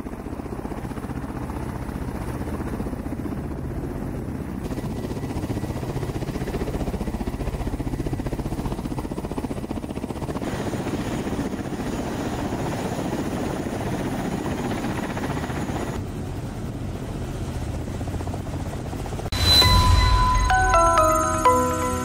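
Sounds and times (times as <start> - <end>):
helicopter rotor chop: 0.0 - 19.3.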